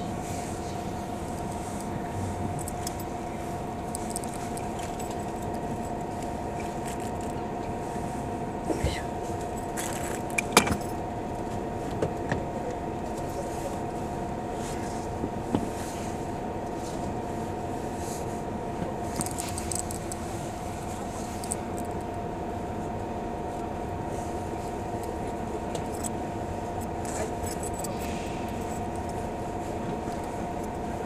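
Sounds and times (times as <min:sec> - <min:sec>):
bus engine idling hum: 0:00.0 - 0:31.0.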